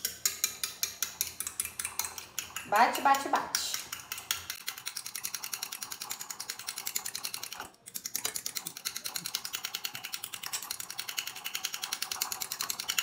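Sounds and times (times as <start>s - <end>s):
fork beating egg whites in bowl: 0.0s - 13.0s.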